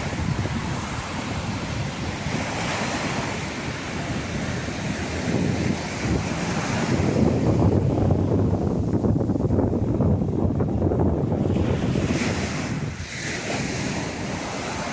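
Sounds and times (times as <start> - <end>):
surf washing onto beach: 0.0 - 14.9
wind buffeting microphone: 0.0 - 14.9.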